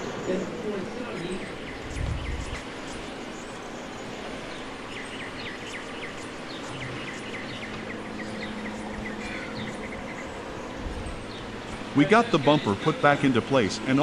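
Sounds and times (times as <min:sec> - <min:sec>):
bird chirping: 0:00.0 - 0:14.0
steady background noise: 0:00.0 - 0:14.0.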